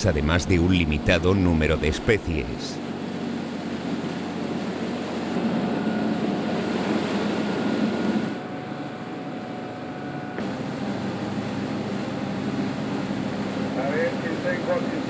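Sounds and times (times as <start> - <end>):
motorboat engine running: 0.0 - 15.0
rush of boat wake: 0.0 - 15.0.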